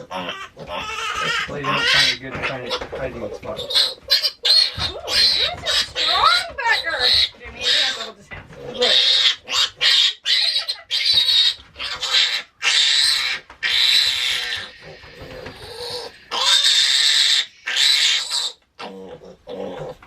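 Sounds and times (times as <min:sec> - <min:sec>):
piglet squealing: 0:00.0 - 0:20.0.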